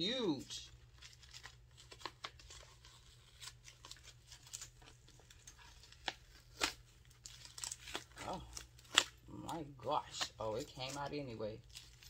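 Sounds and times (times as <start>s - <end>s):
paper wrapping rustling: 0.3s - 12.0s
plastic bag crinkling: 0.6s - 12.0s.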